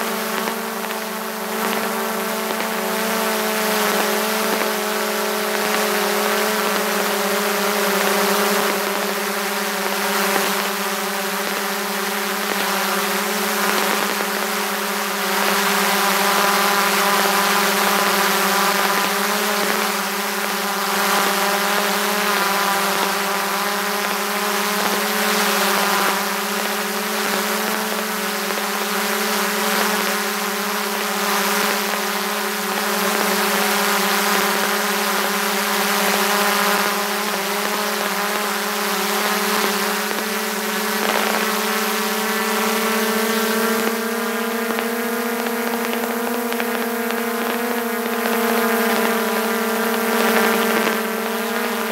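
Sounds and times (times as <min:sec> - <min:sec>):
drone propellers whining: 0:00.0 - 0:51.9.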